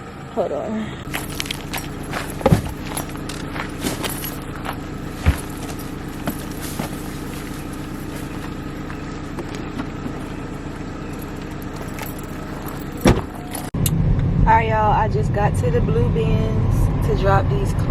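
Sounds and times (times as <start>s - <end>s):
car engine hum: 0.0s - 17.9s
road noise: 0.0s - 17.9s.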